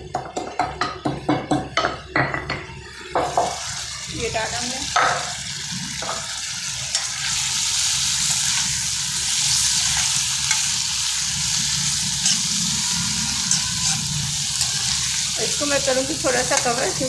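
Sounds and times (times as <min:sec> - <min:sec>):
meat sizzling in oil: 0:02.9 - 0:17.0.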